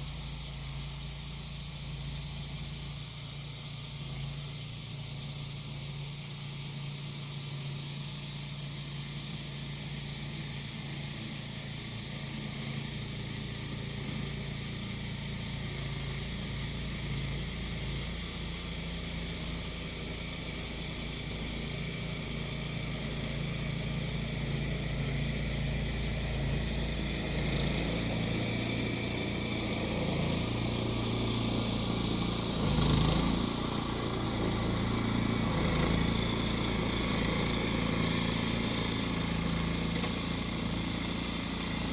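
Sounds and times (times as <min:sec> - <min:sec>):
cicadas buzzing: 0:00.0 - 0:41.9
lawn mower engine running: 0:00.0 - 0:41.9.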